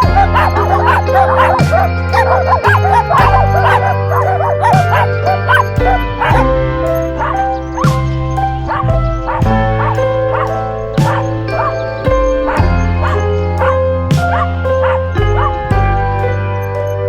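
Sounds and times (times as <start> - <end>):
dog whimpering and yipping: 0.0 - 15.6
background music with beat: 0.0 - 17.0.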